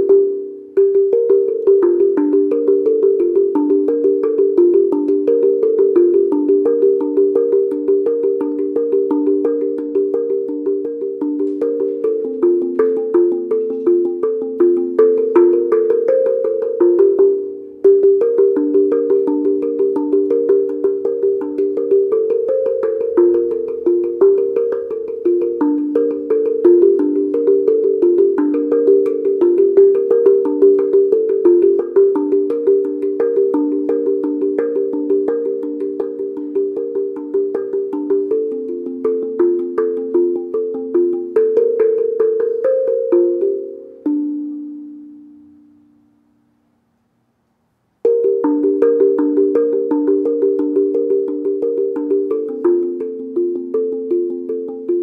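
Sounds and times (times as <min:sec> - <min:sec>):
handpan notes: 0:00.0 - 0:46.4, 0:48.0 - 0:55.0.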